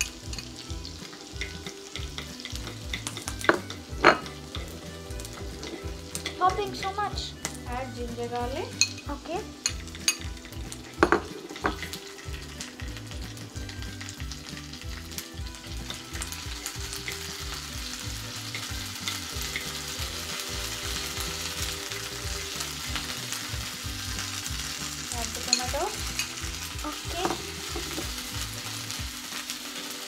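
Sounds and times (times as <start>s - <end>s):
onion sizzling in hot oil: 0.0s - 30.0s.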